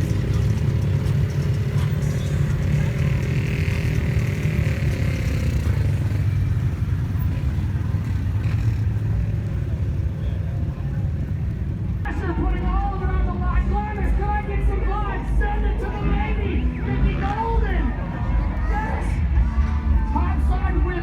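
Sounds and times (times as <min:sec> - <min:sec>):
high engine whine: 0:00.0 - 0:21.0
vehicle engine droning: 0:00.0 - 0:21.0.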